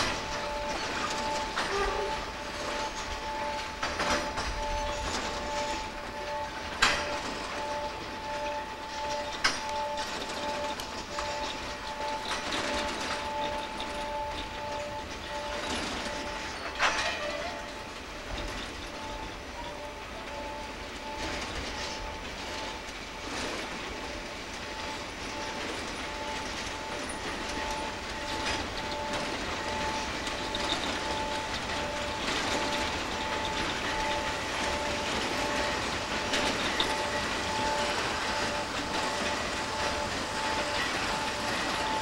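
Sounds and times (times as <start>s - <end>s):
two-tone electronic signal beeping: 0.0s - 23.4s, 24.0s - 42.0s
wheels clattering over rail joints: 0.0s - 42.0s.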